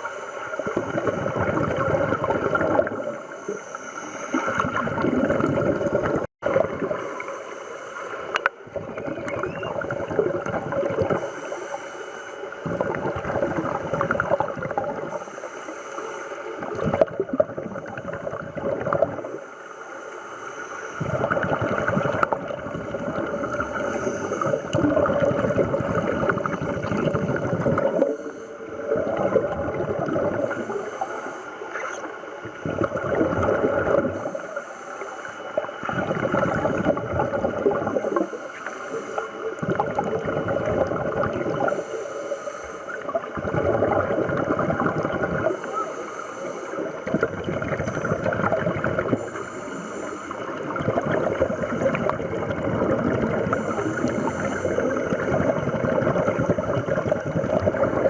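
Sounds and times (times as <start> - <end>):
underwater regulator bubbles: 0.0 - 7.3, 8.2 - 11.6, 12.5 - 15.3, 16.6 - 19.4, 21.0 - 58.0.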